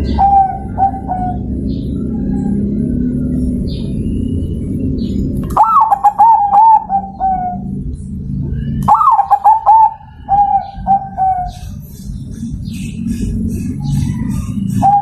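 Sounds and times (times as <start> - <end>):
dove cooing: 0.0 - 3.7, 5.4 - 15.0
low rumbling noise: 0.0 - 15.0.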